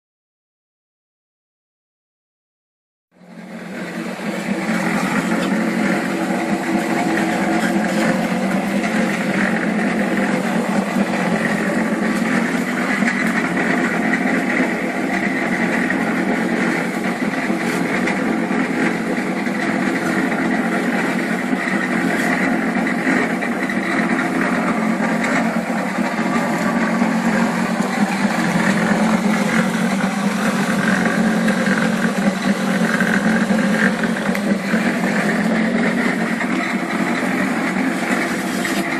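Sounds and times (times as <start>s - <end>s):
cement mixer running: 3.2s - 38.9s.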